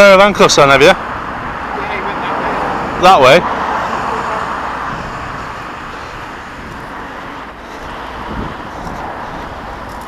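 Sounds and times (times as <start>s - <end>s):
road traffic hiss: 0.0s - 10.0s.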